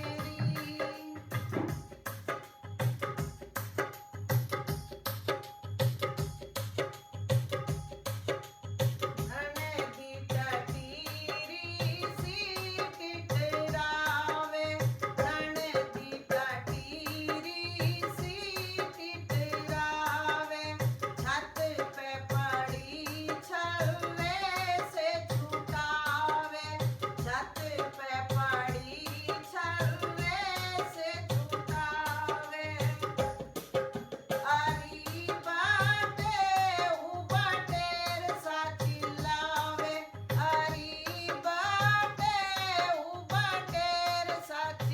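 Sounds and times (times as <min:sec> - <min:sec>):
woman singing folk song: 0:00.0 - 0:01.8, 0:09.2 - 0:44.9
hand drum beat: 0:00.0 - 0:44.9.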